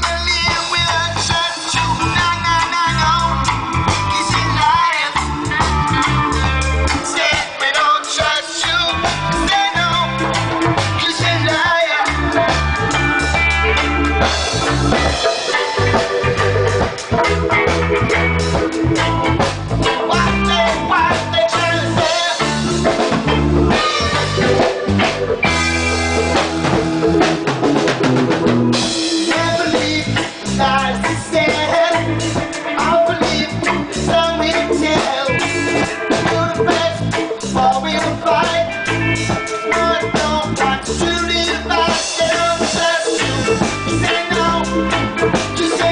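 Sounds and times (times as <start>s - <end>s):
heavy bass line: 0.0s - 45.9s
live reggae band playing: 0.0s - 45.9s.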